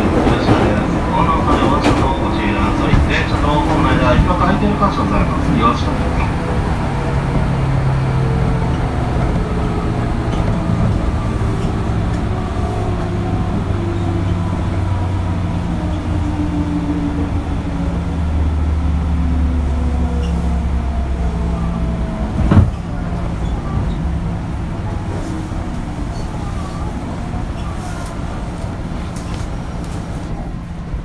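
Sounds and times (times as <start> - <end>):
wheels rumbling on track: 0.0 - 31.0.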